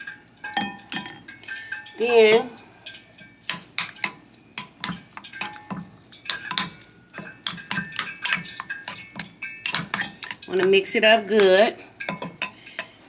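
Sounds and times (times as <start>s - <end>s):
spoon clinking against ceramic bowl: 0.0s - 13.0s
stirring through wet batter: 0.0s - 13.0s.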